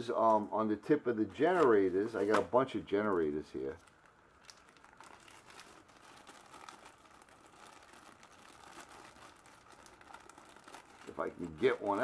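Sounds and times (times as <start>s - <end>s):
plastic bag crinkling: 1.4s - 12.0s.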